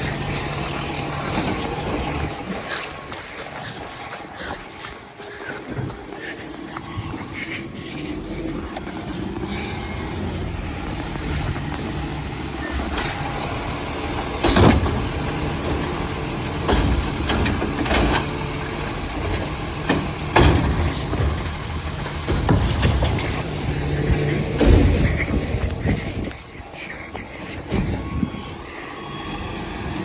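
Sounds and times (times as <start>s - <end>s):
garbage truck engine revving: 0.0s - 30.0s.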